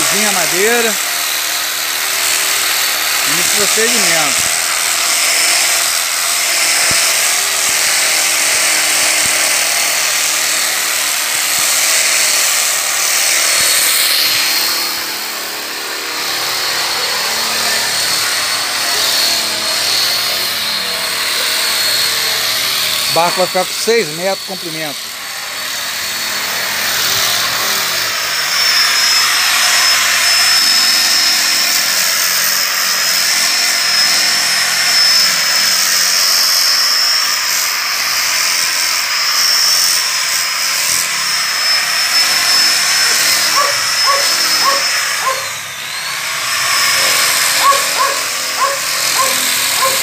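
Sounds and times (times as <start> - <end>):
angle grinder sanding wood: 0.0 - 50.0.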